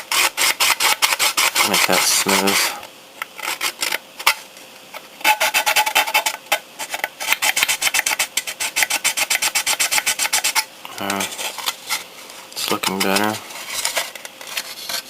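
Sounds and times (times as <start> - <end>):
hand sanding plastic: 0.0 - 4.4, 5.2 - 15.0.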